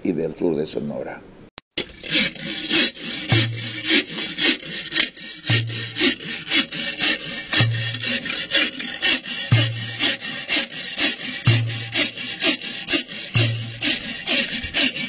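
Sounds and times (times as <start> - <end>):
wooden rasping sticks scraped: 1.7 - 15.0.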